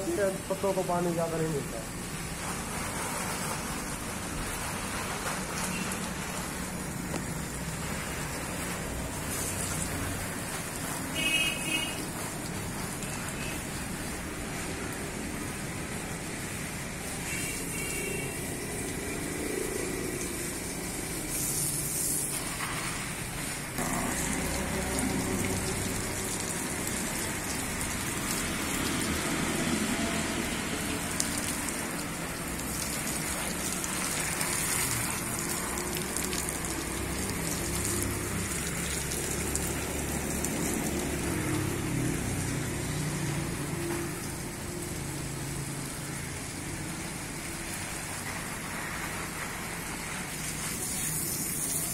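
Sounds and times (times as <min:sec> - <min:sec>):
hose spraying water on leaves: 0:00.0 - 0:51.9.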